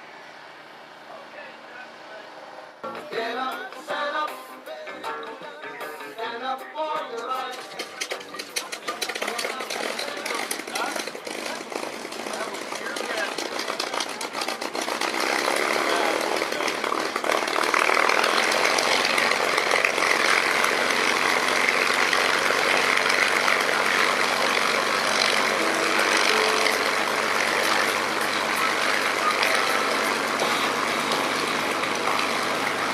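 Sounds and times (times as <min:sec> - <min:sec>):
propeller plane engine droning: 0:00.0 - 0:02.9, 0:07.4 - 0:32.9.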